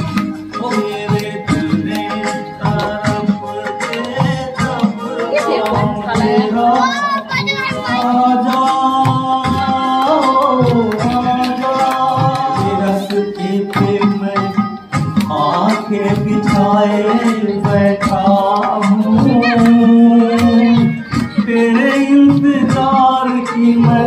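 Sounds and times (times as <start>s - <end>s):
backing track drum beats: 0.0s - 24.0s
man singing into microphone: 0.0s - 24.0s.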